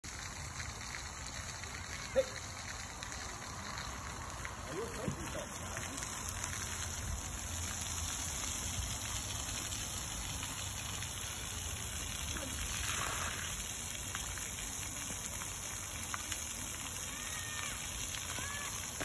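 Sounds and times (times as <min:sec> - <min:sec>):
fountain spray hissing on concrete: 0:00.0 - 0:19.0.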